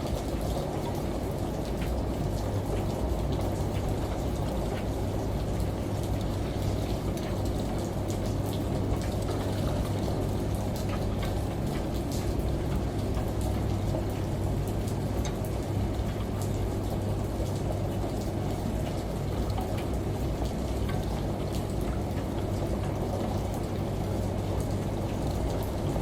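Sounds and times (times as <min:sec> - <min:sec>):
falling water: 0:00.0 - 0:26.0
washing machine humming: 0:00.0 - 0:26.0.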